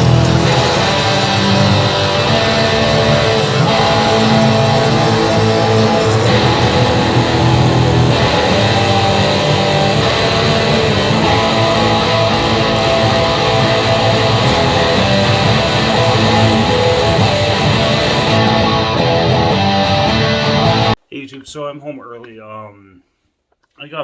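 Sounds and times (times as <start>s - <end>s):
electric guitar instrumental music: 0.0s - 21.0s.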